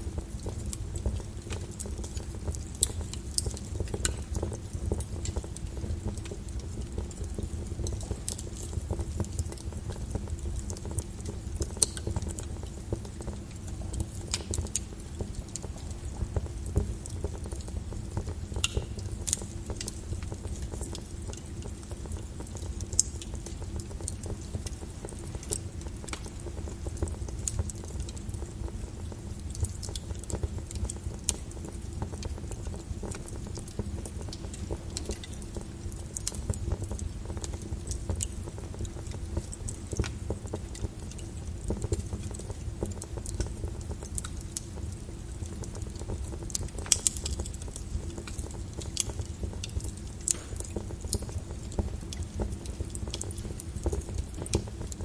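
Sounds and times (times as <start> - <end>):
rain: 0.0 - 55.0
wood fire crackling: 0.0 - 55.0.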